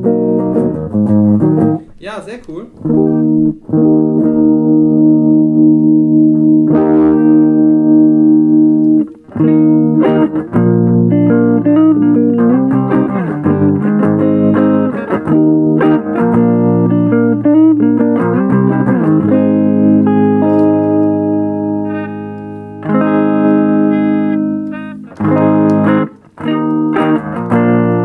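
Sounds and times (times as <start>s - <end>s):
electric guitar chords: 0.0s - 2.0s, 2.7s - 28.0s.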